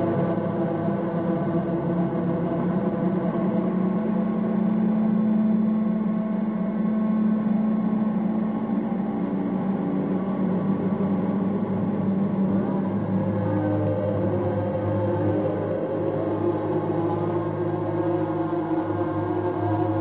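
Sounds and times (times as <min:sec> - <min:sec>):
ambient drone music: 0:00.0 - 0:20.0.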